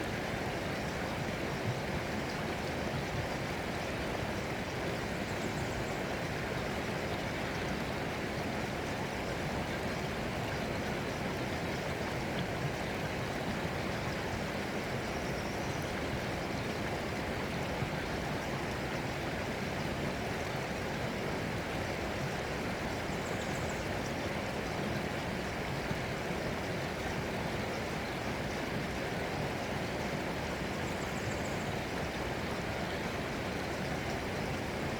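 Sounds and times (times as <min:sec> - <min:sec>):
stream of flowing water: 0:00.0 - 0:34.9.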